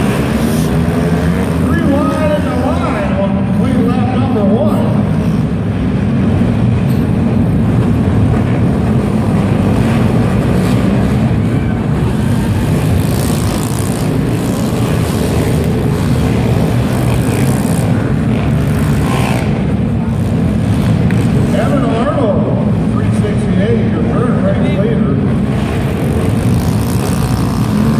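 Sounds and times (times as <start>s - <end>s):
small motorbike engines droning: 0.0s - 27.9s.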